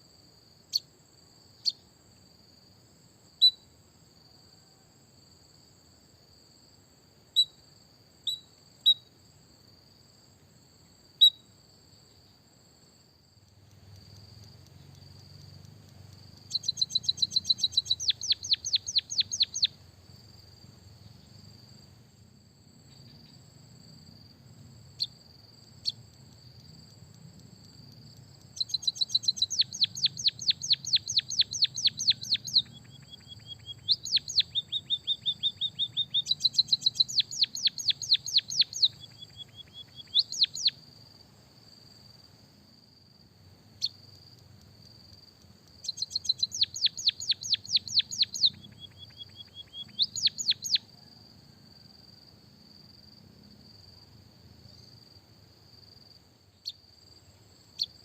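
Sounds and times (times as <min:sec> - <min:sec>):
songbird singing: 0:00.0 - 0:05.7, 0:07.2 - 0:22.0, 0:22.7 - 0:58.0.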